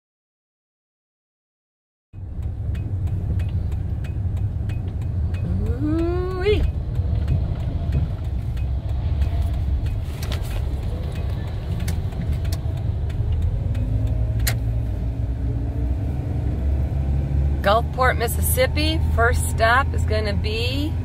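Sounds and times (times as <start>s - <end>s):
truck engine and road noise: 2.2s - 21.0s.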